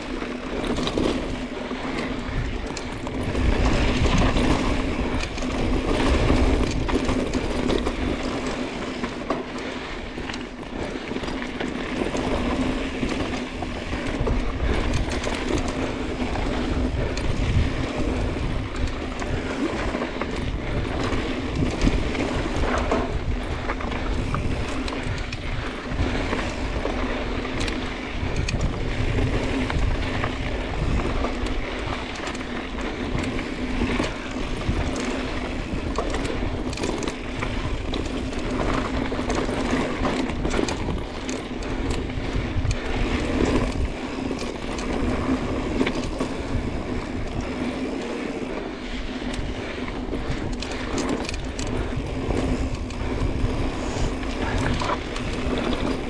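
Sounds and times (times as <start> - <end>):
bike chain and frame rattling: 0.0 - 56.0
tyres rolling over gravel: 0.0 - 56.0.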